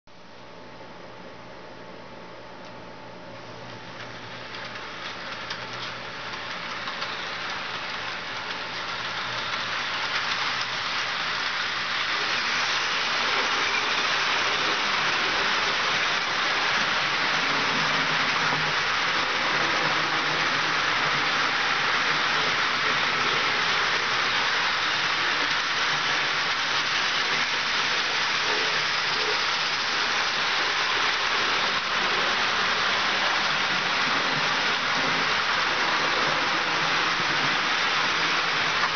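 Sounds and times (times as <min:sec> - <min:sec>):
model train wheels clattering on rails: 0:03.4 - 0:38.9.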